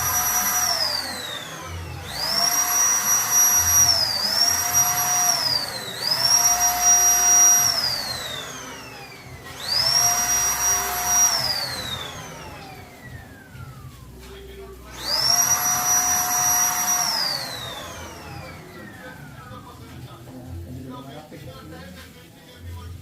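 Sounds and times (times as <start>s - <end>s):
electric paint spray gun whining: 0.0s - 20.2s.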